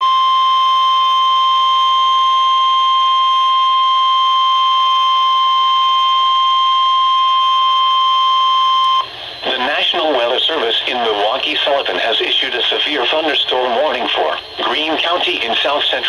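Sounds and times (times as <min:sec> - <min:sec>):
steady warning alarm tone: 0:00.0 - 0:16.0.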